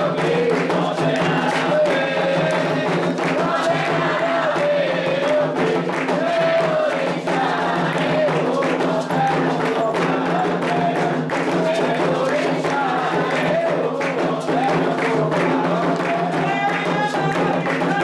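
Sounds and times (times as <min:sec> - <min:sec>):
hand drums fast rhythm: 0:00.0 - 0:18.0
people singing: 0:00.0 - 0:18.0.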